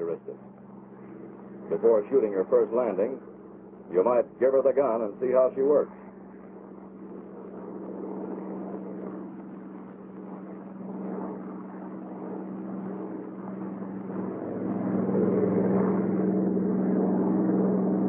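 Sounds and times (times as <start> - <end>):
aircraft engine running: 0.0 - 18.0.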